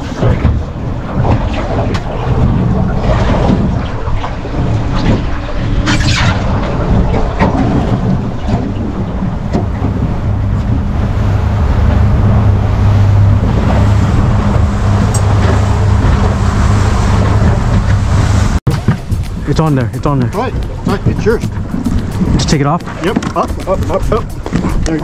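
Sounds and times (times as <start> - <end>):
outboard motor droning: 0.0 - 25.0
wind and water rushing: 0.0 - 25.0.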